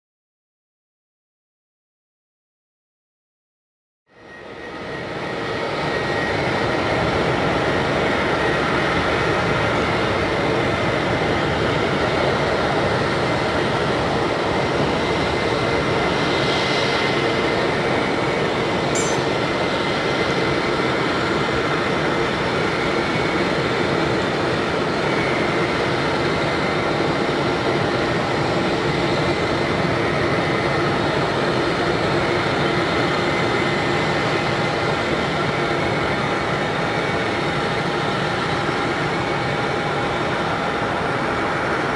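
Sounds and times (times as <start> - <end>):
jet engines with whine: 4.1 - 41.9.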